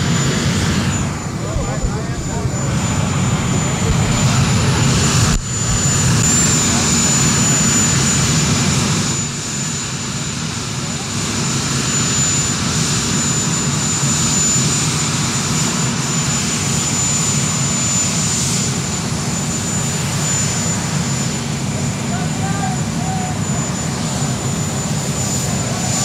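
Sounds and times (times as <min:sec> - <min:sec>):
aircraft turbine engines running: 0:00.0 - 0:26.0.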